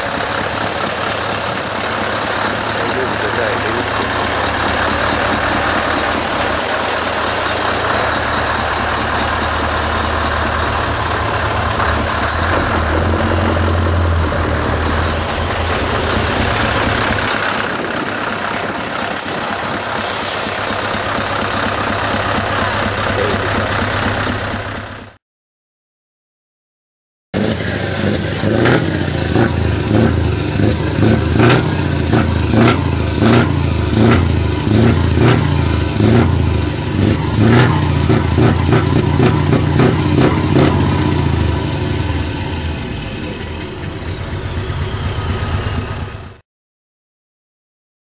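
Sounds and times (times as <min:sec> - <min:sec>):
diesel engine running: 0:00.0 - 0:25.2, 0:27.4 - 0:46.4.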